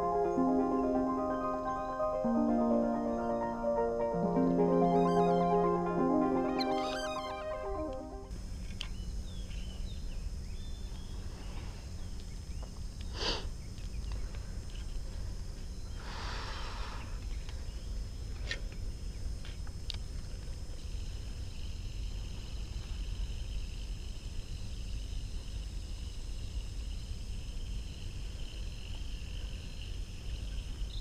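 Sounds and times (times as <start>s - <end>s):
insects chirping: 0.0s - 31.0s.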